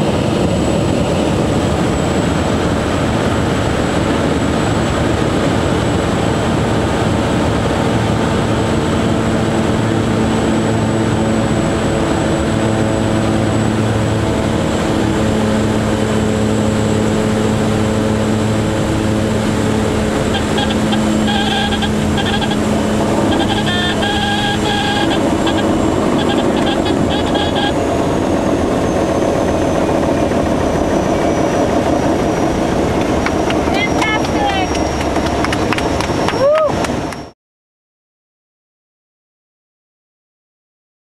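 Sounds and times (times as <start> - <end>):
aircraft engine and propeller: 0.0 - 37.4.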